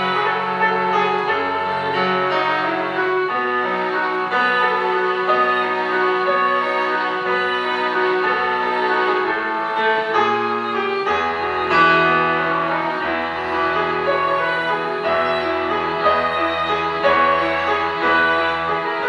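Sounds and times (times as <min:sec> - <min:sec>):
piano melody: 0:00.0 - 0:19.0.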